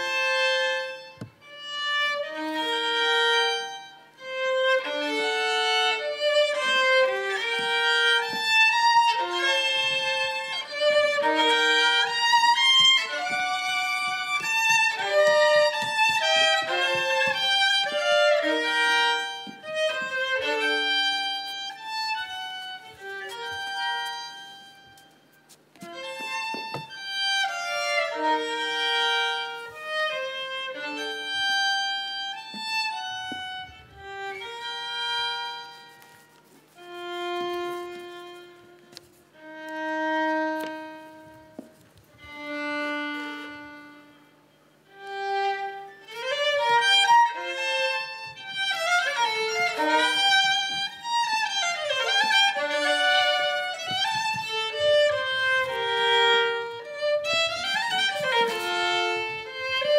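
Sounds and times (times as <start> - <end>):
violin melody: 0.0 - 59.9.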